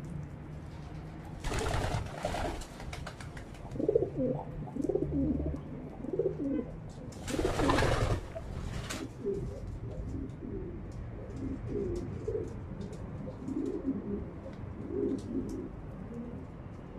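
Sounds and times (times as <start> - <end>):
pigeons cooing: 1.5 - 16.7.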